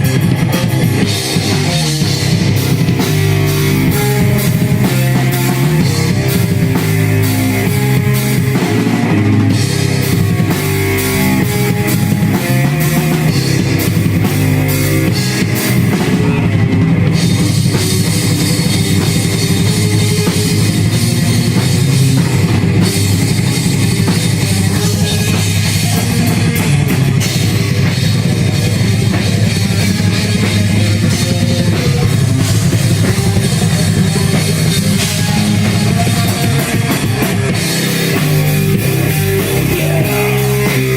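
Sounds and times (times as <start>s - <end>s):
heavy metal band playing: 0.0s - 40.9s.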